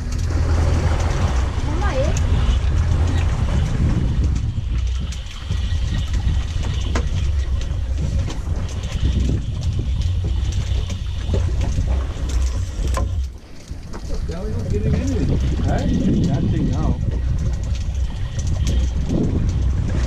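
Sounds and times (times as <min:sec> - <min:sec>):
wind and sea against boat: 0:00.0 - 0:20.0.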